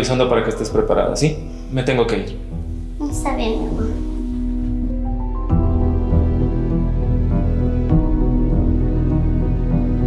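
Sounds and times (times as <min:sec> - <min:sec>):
soft calm background music: 0:00.0 - 0:10.0.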